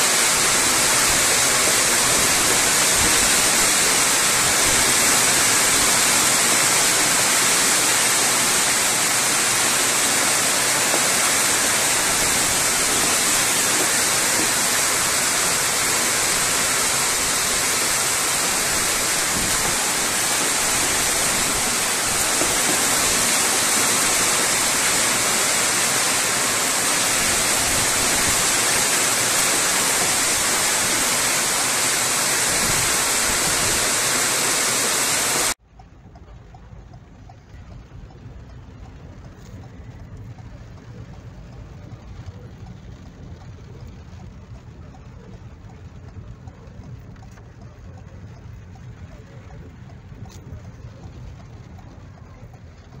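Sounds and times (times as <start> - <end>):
hail and rain pelting ground: 0.0 - 35.6, 36.8 - 53.0.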